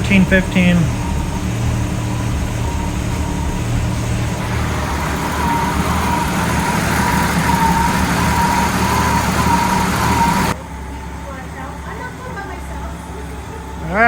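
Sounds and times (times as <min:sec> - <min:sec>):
car engine idling: 0:00.0 - 0:14.0
faint wavering whine: 0:00.0 - 0:14.0.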